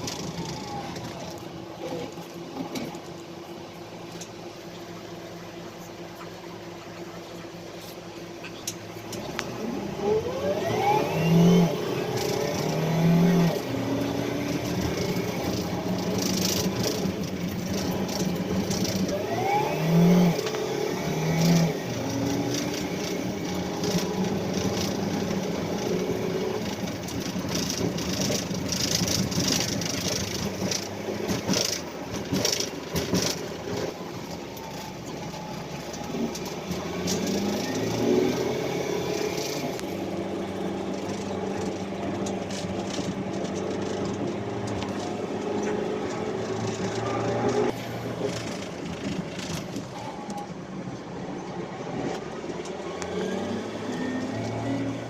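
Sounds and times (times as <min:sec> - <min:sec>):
vehicle engine revving: 0:07.0 - 0:50.1, 0:52.0 - 0:55.0.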